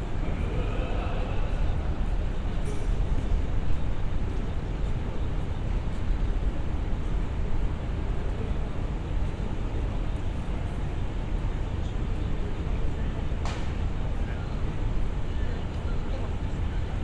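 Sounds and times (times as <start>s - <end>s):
city street low rumble: 0.0s - 17.0s.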